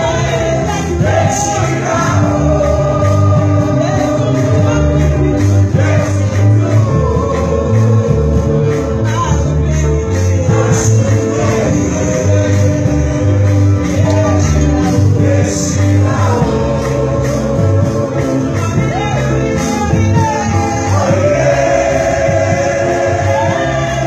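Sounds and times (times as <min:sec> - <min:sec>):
band with deep bass: 0:00.0 - 0:24.0
choir singing gospel song: 0:00.0 - 0:24.0.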